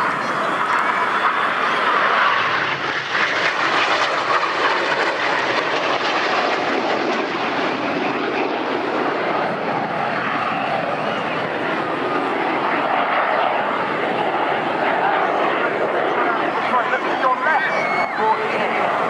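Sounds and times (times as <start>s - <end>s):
loud rushing jet noise: 0.0s - 19.0s.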